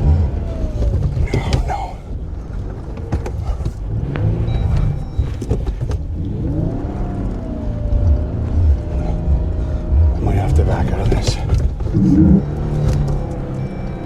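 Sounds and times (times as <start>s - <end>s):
truck engine revving under load: 0.0s - 14.0s
knocks and clunks from truck: 0.6s - 6.3s, 7.8s - 14.0s.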